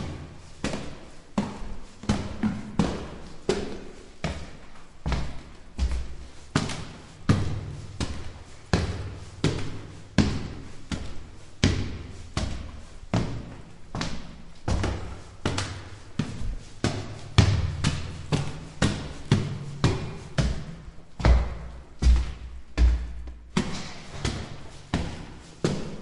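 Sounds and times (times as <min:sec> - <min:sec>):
footsteps on stone stairs: 0:00.0 - 0:26.0.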